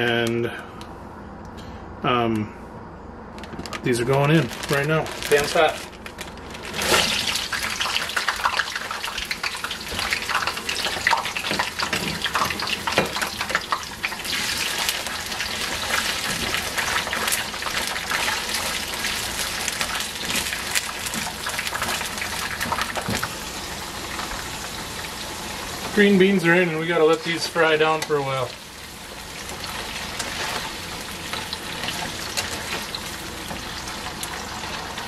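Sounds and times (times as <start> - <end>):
beans sizzling in oil: 6.8 - 35.0.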